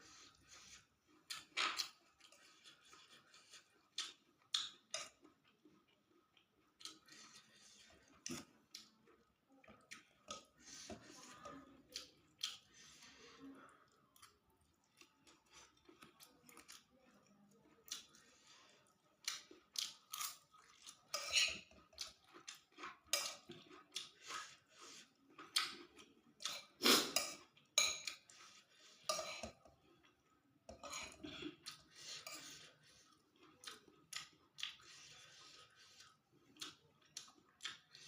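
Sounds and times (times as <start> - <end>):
chewing: 0.0 - 38.0.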